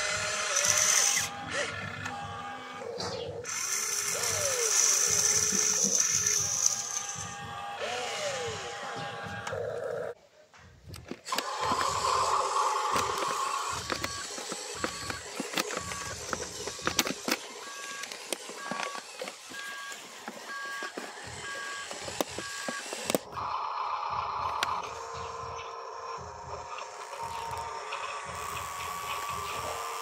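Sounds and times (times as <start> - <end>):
electric motor whining: 0.0 - 10.2, 11.0 - 30.0.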